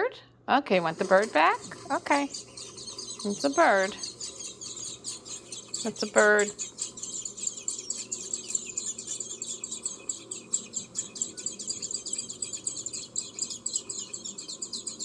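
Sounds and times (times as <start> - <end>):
recorded songbird chirping: 0.7 - 15.0.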